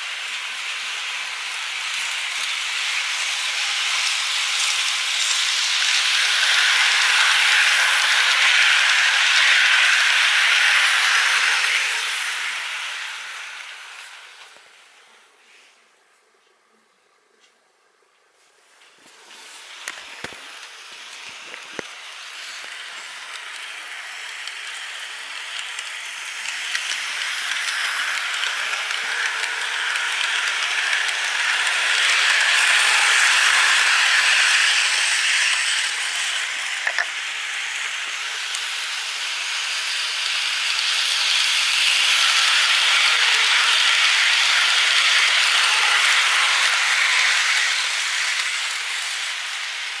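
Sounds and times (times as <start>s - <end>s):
model train motor: 0.0s - 14.8s, 19.4s - 50.0s
model train wheels on rails: 0.0s - 15.8s, 18.4s - 50.0s.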